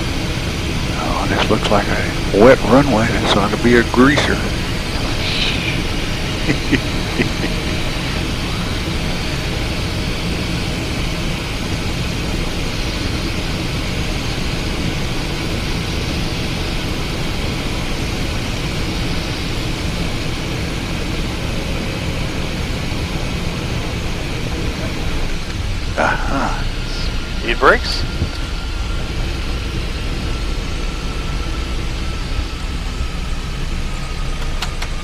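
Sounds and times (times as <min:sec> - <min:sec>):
jet cockpit airflow and engines: 0:00.0 - 0:35.0.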